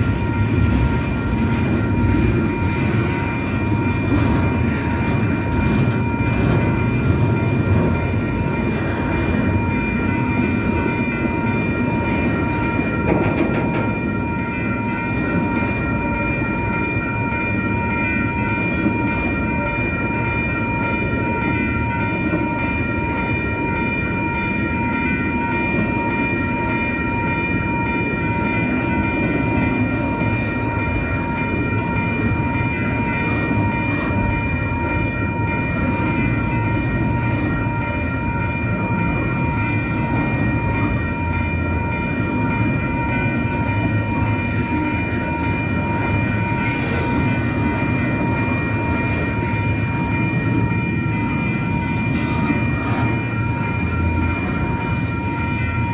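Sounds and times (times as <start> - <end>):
crossing bell ringing: 0.0 - 55.9
train wheels rumbling on rails: 0.0 - 55.9.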